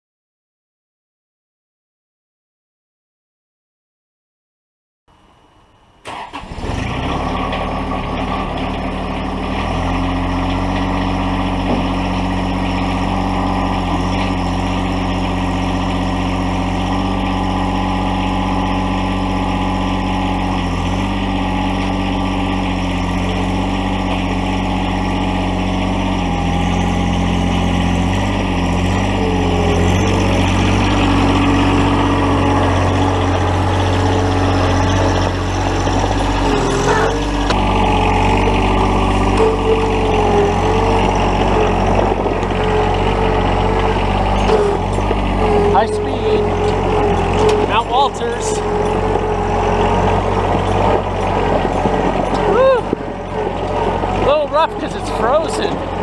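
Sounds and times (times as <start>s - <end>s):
tractor diesel engine running: 6.0s - 56.0s.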